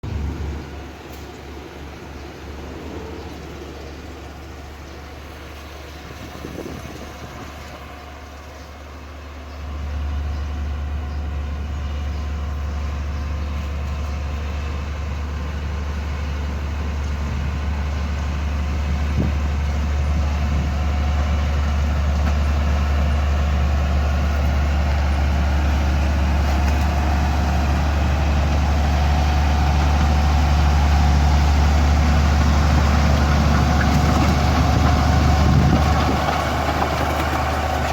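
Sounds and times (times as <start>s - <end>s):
heavy machine engine humming: 0.0s - 37.9s.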